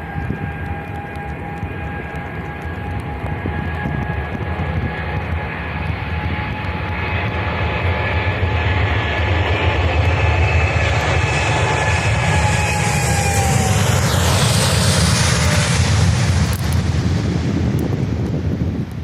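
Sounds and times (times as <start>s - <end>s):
jet engines roaring and whining: 0.0s - 19.0s.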